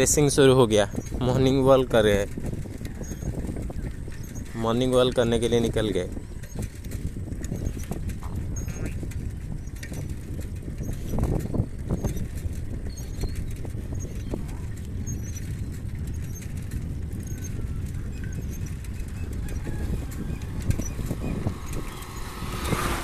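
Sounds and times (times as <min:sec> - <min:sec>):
bicycle rumble on paved road: 0:00.0 - 0:23.0
light rattles and clicks: 0:00.0 - 0:23.0.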